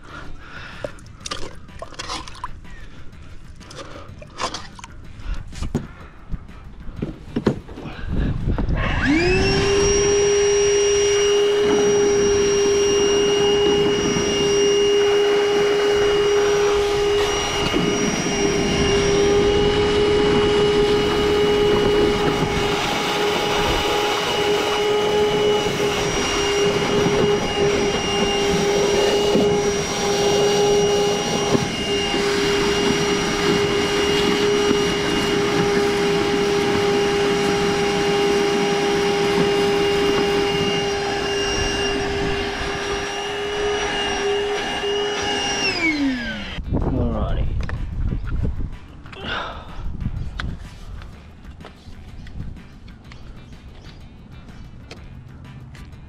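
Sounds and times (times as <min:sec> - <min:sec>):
vacuum sucking water and dirt: 0:00.0 - 0:06.0, 0:07.0 - 0:46.6
wet dry vacuum whining: 0:00.0 - 0:46.7.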